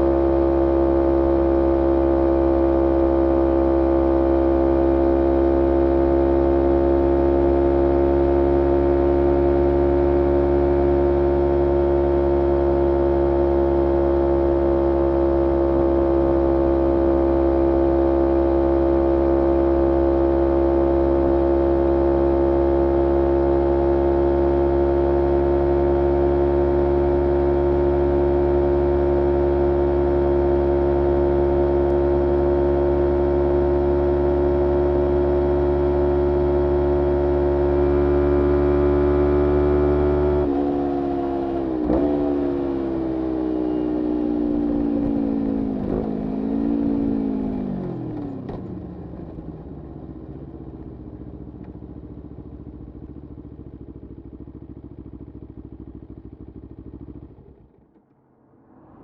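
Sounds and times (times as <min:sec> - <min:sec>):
motorcycle engine revving high: 0:00.0 - 0:48.6.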